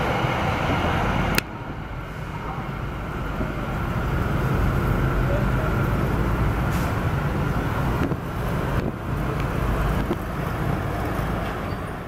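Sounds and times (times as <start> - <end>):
motorcycle and truck engines rumbling: 0.0 - 12.0.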